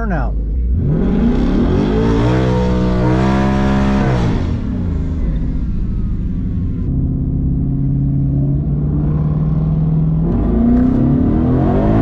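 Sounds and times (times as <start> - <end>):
car engine revving: 0.4 - 12.0.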